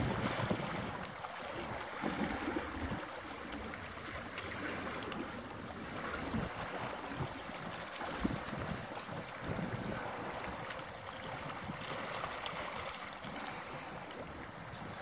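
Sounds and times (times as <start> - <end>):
wind buffeting microphone: 0.0 - 3.3, 5.6 - 15.0
small waves lapping: 0.0 - 15.0.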